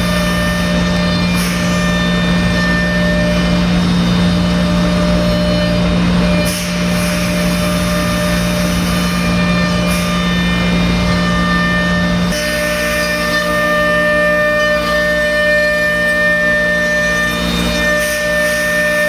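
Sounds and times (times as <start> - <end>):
router spindle humming and whining: 0.0 - 19.0.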